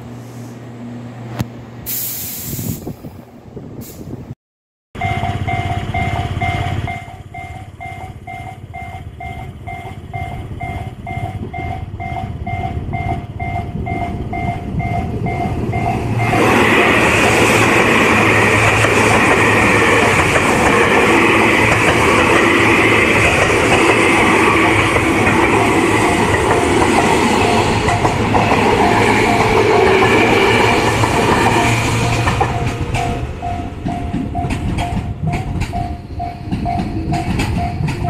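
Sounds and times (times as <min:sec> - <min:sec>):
electric train passing: 0:00.0 - 0:03.8, 0:05.0 - 0:38.0
level-crossing warning bell: 0:05.0 - 0:38.0.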